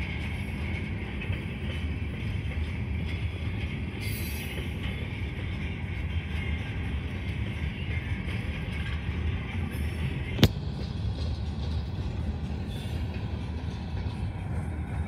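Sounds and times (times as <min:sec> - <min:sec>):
train cars rumbling over rails: 0:00.0 - 0:15.0.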